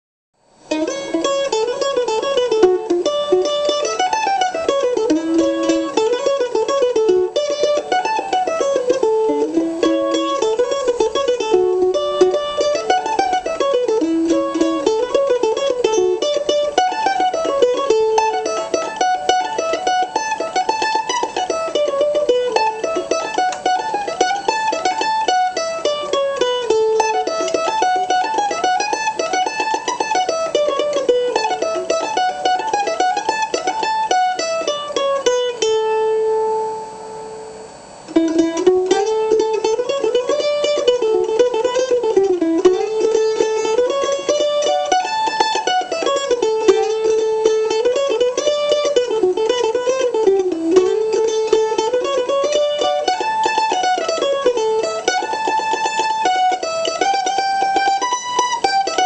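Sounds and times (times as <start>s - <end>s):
mandolin melody: 0.6s - 37.4s, 38.1s - 59.0s.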